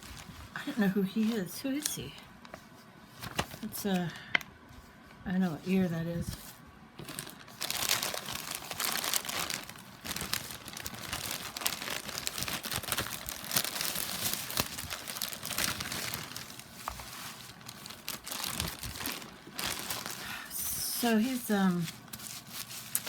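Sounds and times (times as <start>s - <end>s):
packaging crinkling and rustling: 0.0s - 4.5s, 5.5s - 23.0s.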